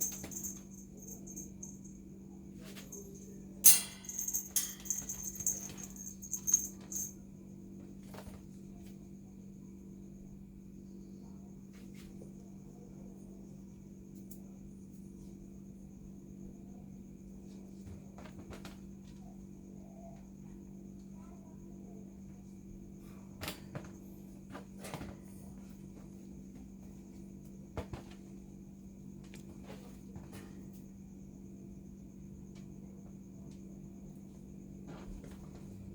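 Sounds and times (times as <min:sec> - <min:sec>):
low electrical hum: 0:00.0 - 0:35.9.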